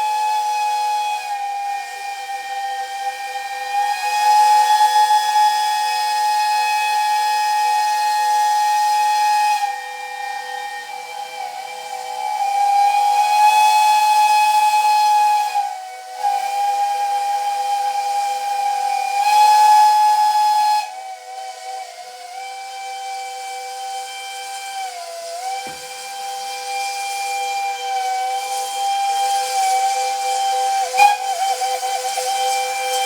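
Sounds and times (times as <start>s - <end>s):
hiss: 0.0s - 33.0s
train whistle chord: 0.0s - 33.0s.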